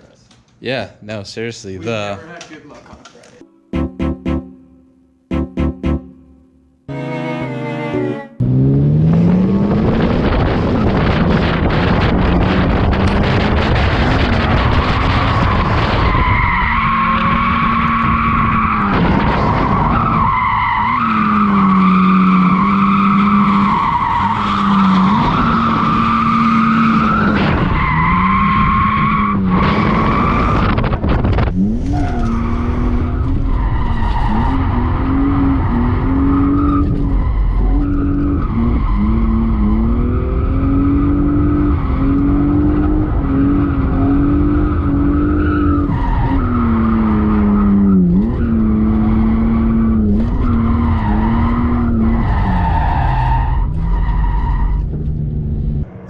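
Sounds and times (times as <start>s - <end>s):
car engine at high revs: 8.4s - 55.9s
tires squealing: 8.5s - 56.0s.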